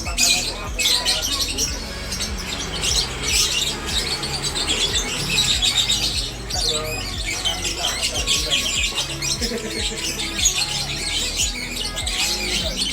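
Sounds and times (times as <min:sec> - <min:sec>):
many birds chirping: 0:00.0 - 0:12.9.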